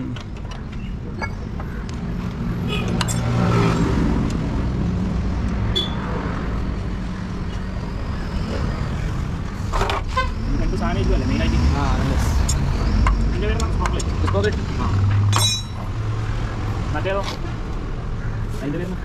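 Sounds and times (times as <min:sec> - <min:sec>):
road traffic noise: 0:00.0 - 0:19.0
vehicle engine humming: 0:00.0 - 0:19.0.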